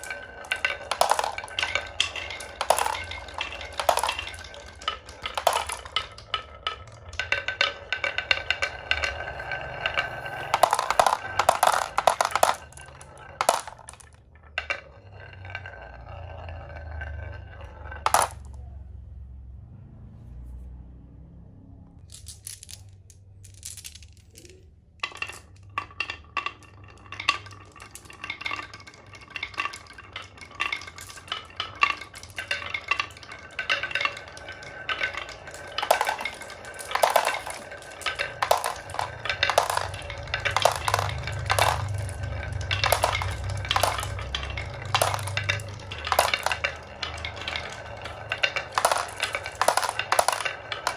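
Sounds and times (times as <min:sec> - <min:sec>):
marbles rolling on wooden tracks: 0:00.0 - 0:18.9, 0:22.0 - 0:50.9
marbles clacking: 0:00.0 - 0:19.0, 0:22.0 - 0:50.9.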